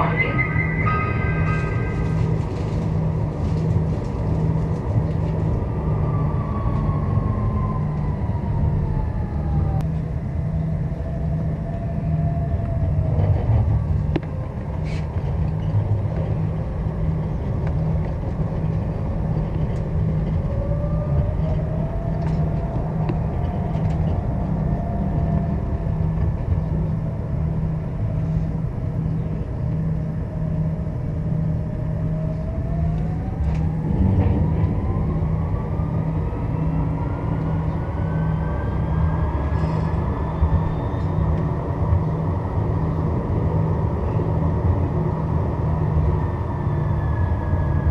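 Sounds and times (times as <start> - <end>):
tram rumble: 0.0 - 47.9.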